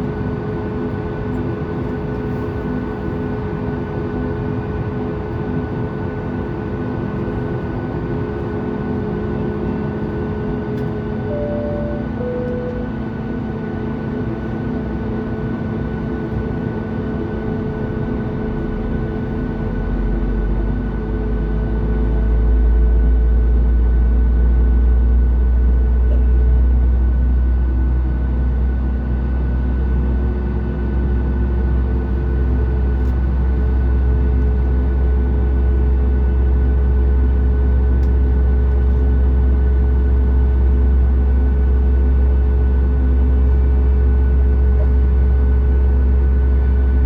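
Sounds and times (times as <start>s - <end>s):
airplane cabin hum: 0.0s - 47.0s
deep engine rumble: 0.0s - 47.0s.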